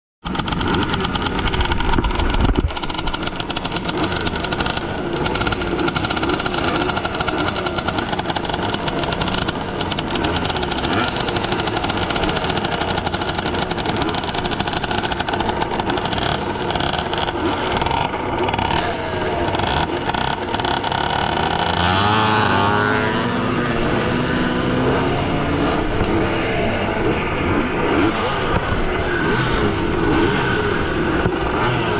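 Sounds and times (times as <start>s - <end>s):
motocross engines running hard: 0.3s - 31.9s.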